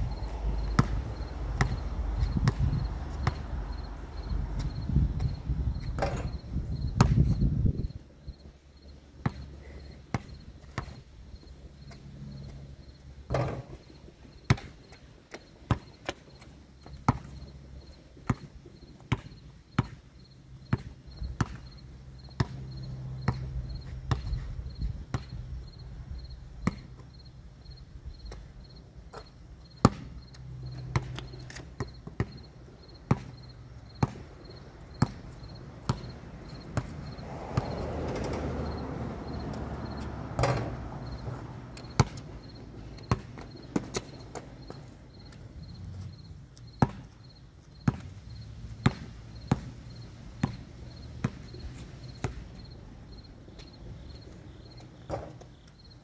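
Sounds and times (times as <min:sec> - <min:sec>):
insects chirping: 0:00.0 - 0:15.0, 0:18.8 - 0:19.4, 0:20.2 - 0:26.4, 0:27.1 - 0:56.0.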